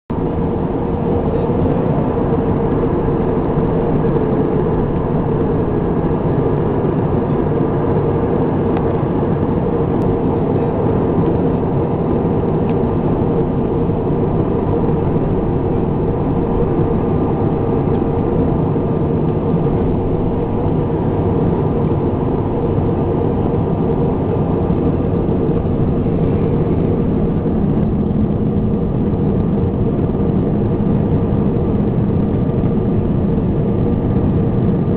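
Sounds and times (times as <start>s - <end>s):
jet engines droning: 0.1s - 34.9s.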